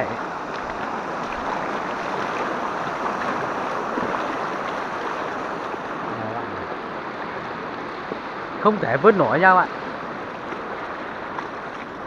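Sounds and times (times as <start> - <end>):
floodwater rushing and spilling: 0.0 - 12.0.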